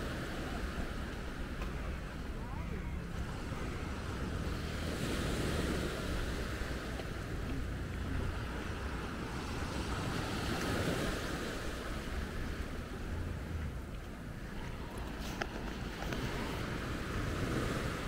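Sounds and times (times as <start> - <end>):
small waves breaking on sand: 0.0 - 18.0.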